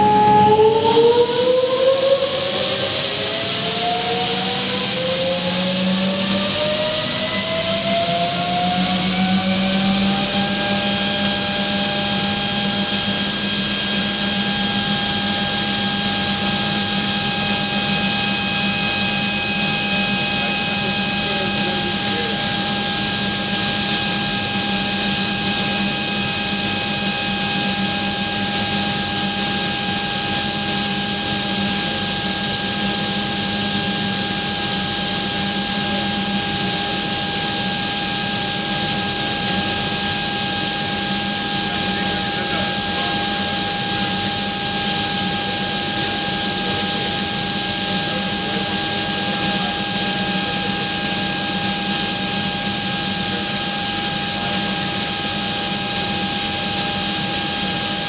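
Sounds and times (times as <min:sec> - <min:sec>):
air compressor whining: 0:00.0 - 0:58.0.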